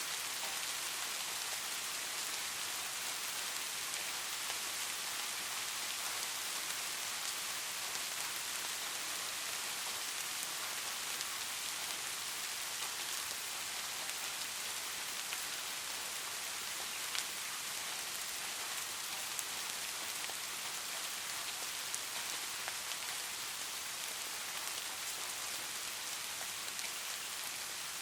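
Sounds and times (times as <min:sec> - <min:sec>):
light rain hissing: 0:00.0 - 0:28.0.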